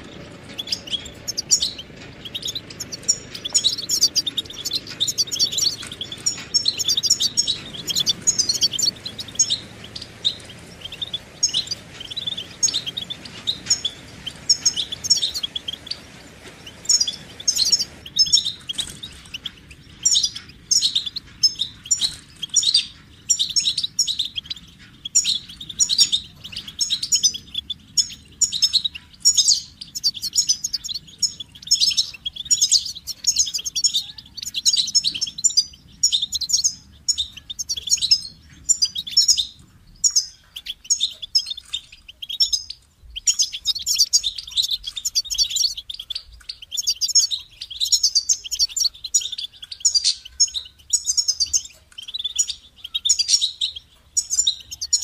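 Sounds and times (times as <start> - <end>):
goldfinch twittering song: 0.0 - 55.0.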